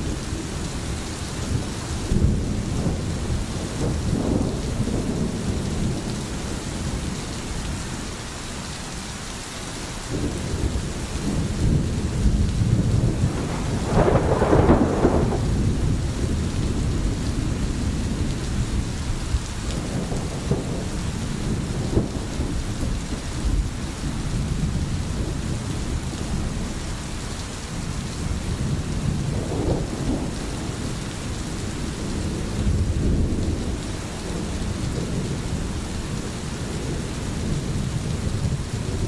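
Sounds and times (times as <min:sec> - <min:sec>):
rolling thunder: 0:00.0 - 0:07.2, 0:10.1 - 0:26.8, 0:27.8 - 0:39.0
steady rain: 0:00.0 - 0:39.0.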